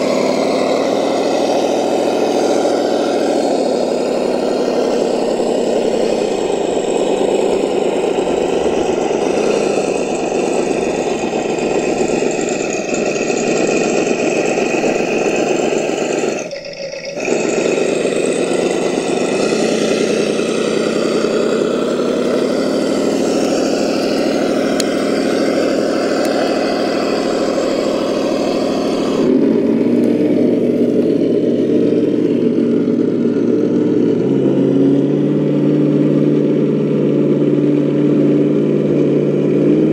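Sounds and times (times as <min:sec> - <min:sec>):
rc crawler motor and gears: 0:00.0 - 0:39.9.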